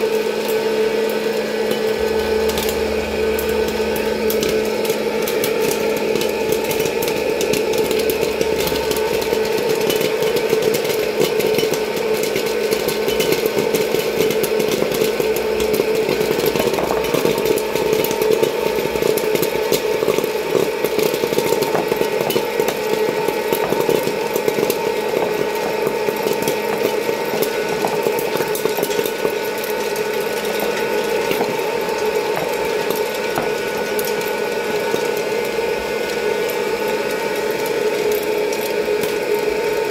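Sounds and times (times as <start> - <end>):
popcorn popper fan whirring: 0.0 - 39.9
popcorn kernels popping: 0.1 - 39.9.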